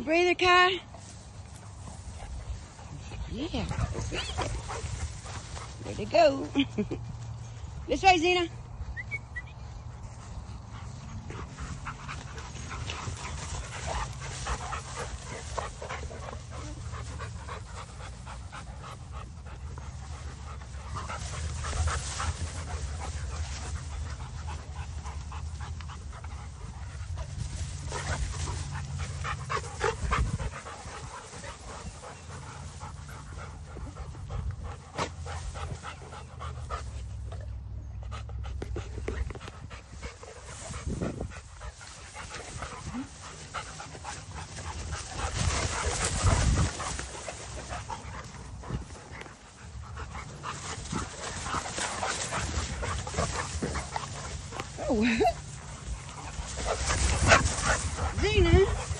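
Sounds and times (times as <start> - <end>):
dogs panting: 0.1 - 58.9
steady low rumble: 0.8 - 58.9.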